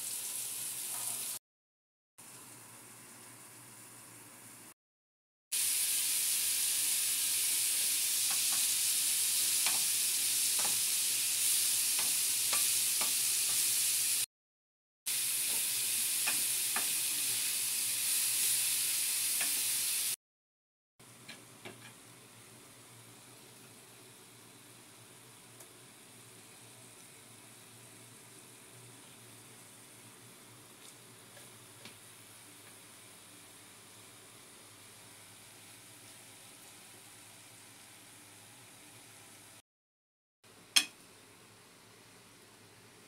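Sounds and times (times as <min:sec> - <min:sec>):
food sizzling in a frying pan: 0:00.0 - 0:01.4, 0:02.2 - 0:04.8, 0:05.5 - 0:14.3, 0:15.1 - 0:20.2, 0:21.0 - 0:39.6, 0:40.7 - 0:42.9.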